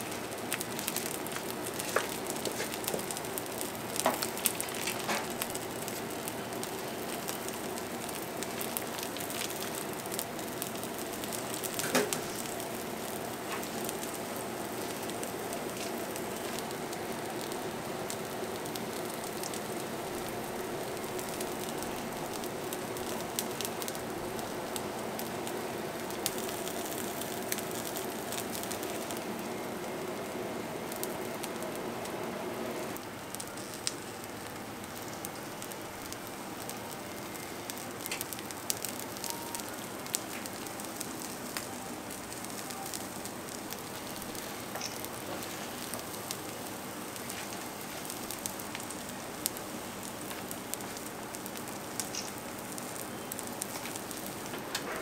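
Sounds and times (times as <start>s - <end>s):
food sizzling over gas flames: 0.0s - 55.0s.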